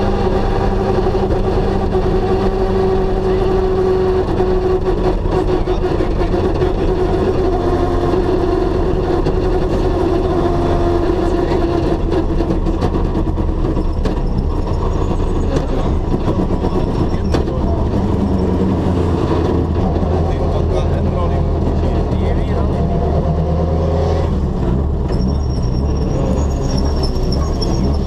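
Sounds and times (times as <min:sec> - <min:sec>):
car engine droning: 0:00.0 - 0:28.0
tyre and road noise: 0:00.0 - 0:28.0.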